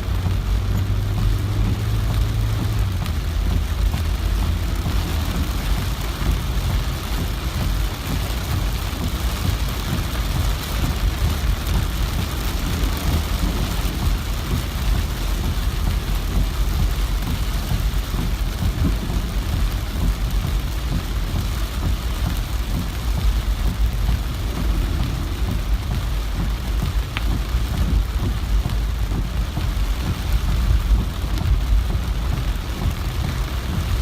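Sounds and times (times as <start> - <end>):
heavy rain downpour: 0.0 - 34.0.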